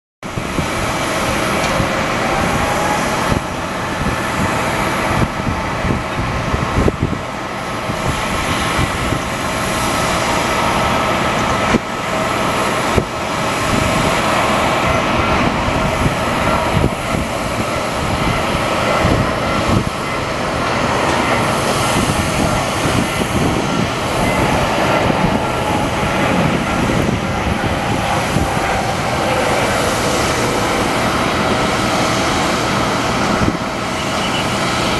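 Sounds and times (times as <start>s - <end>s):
jet engines roaring: 0.2s - 34.9s.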